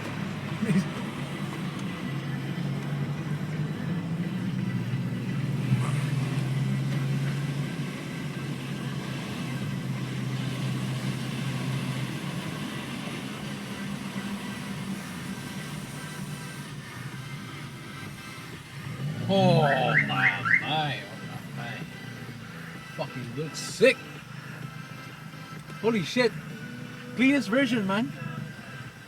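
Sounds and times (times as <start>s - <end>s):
car engine running: 0.0s - 29.0s
turbocharger whine: 0.0s - 29.0s.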